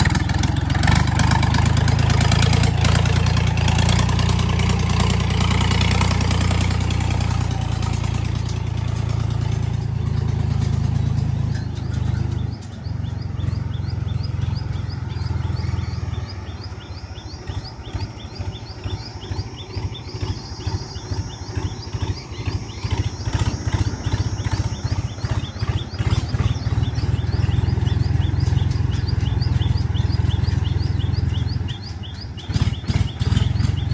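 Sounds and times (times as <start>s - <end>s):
bird chirping rapidly: 0.0s - 33.9s
tractor diesel engine chugging: 0.0s - 33.9s.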